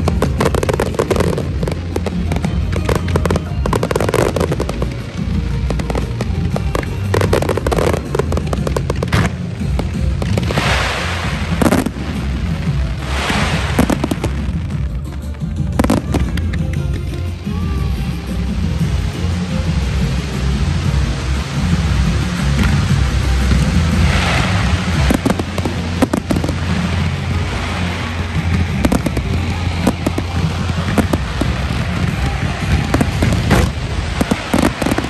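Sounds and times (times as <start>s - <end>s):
fireworks bangs and pops: 0.0s - 35.0s
fireworks crackling: 0.0s - 35.0s.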